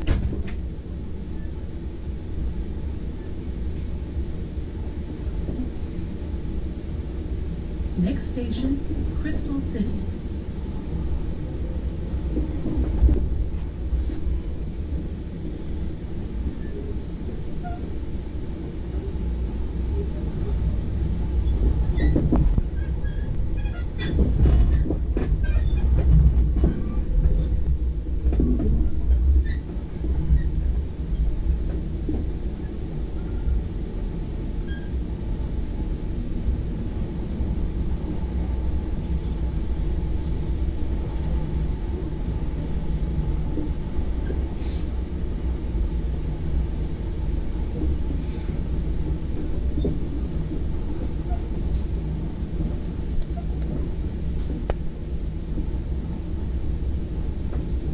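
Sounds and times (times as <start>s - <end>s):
train car rumbling on rails: 0.0s - 57.9s.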